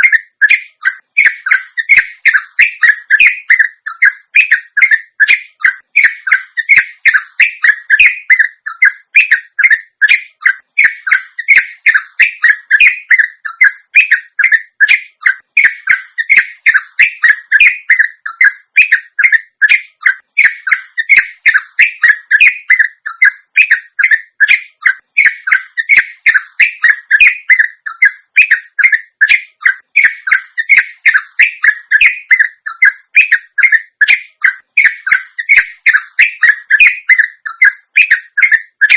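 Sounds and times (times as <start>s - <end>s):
bulbul chattering song: 0.0s - 38.9s.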